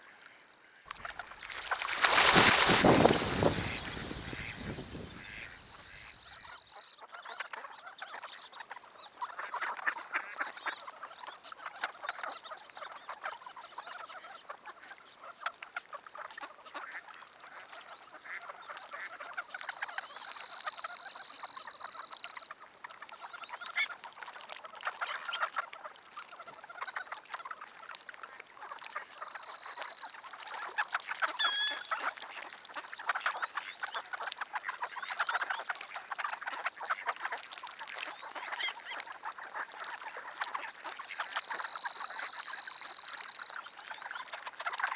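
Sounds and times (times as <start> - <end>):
flock of ducks quacking: 0.0 - 44.9.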